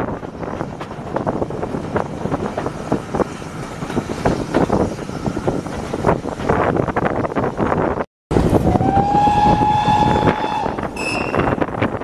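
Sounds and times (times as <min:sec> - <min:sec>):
train rumble: 0:00.0 - 0:12.0
wind gusting on microphone: 0:00.0 - 0:12.0.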